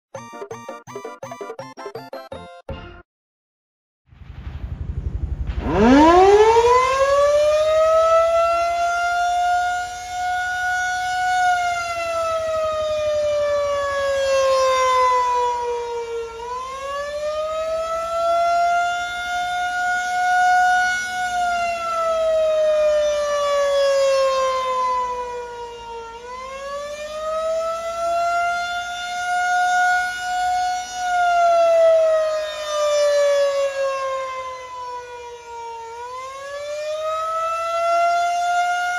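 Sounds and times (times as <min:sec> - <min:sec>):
rotating siren wailing: 0:05.6 - 0:38.9.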